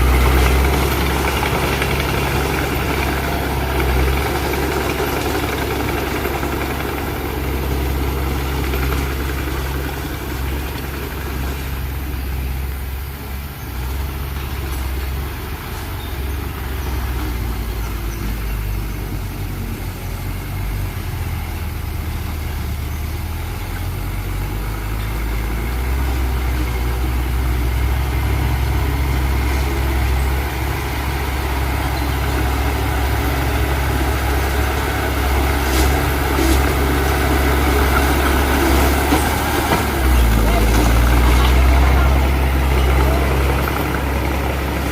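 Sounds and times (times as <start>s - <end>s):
heavy diesel engine humming: 0.0s - 44.9s.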